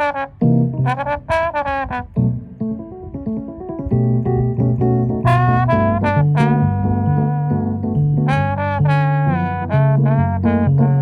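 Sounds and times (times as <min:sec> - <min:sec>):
piano bass line: 0:00.0 - 0:11.0
trombone playing jazz: 0:00.0 - 0:11.0.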